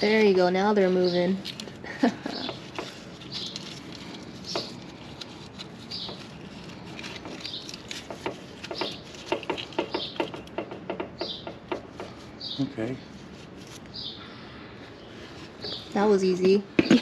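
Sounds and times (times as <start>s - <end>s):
bird chirping: 0.0s - 1.6s, 2.2s - 4.9s, 5.8s - 8.0s, 8.6s - 13.1s, 13.9s - 17.0s.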